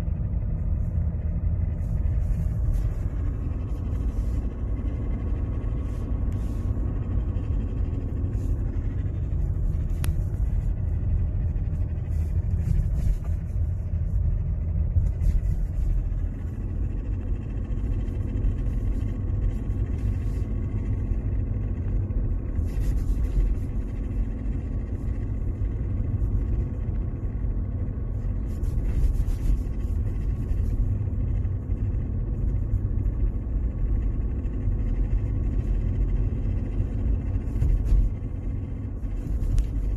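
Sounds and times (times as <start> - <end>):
car engine low rumble: 0.0 - 39.9.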